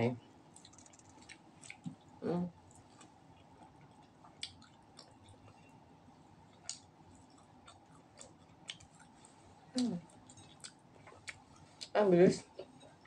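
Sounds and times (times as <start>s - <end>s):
chewing and eating sounds: 0.5s - 13.0s.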